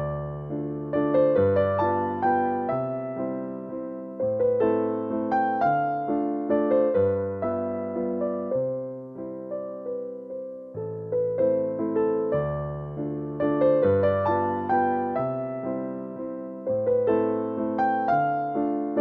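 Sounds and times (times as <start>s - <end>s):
gentle keyboard music: 0.0s - 19.0s.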